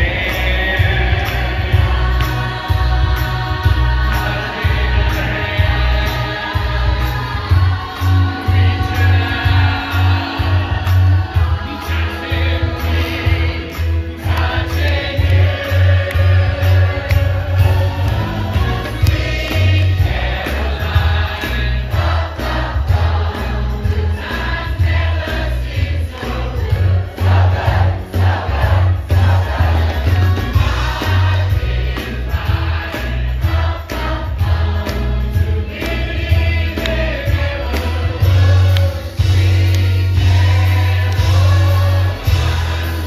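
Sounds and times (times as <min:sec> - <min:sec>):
crowd singing together: 0:00.0 - 0:43.0
live band playing: 0:00.0 - 0:43.0
steady bass beat: 0:00.0 - 0:43.0.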